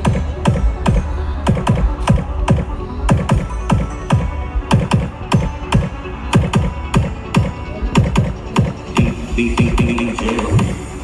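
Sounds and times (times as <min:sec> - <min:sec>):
deep kick drum beats: 0:00.0 - 0:10.8
electronic dance music: 0:00.0 - 0:11.0.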